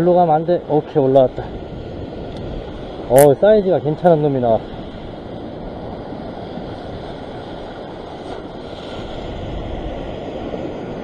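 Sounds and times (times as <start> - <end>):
surf washing against rocks: 0.0 - 11.0
wind on microphone: 0.0 - 11.0.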